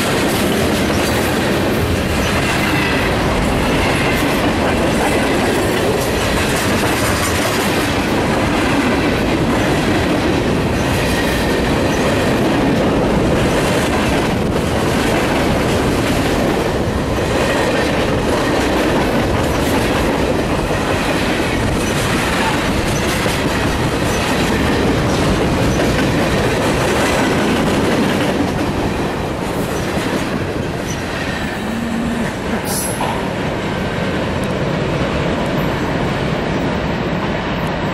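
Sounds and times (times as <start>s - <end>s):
freight train wheels clacking: 0.0s - 37.9s.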